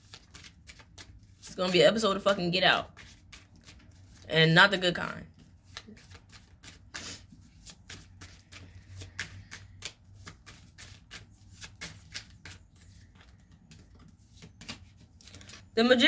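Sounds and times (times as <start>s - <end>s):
cards shuffled by hand: 0.0s - 15.9s.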